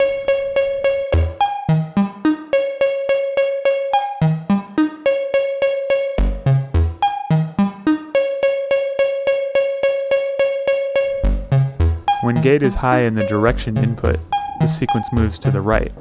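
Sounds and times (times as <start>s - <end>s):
repeating synth notes: 0.0s - 16.0s.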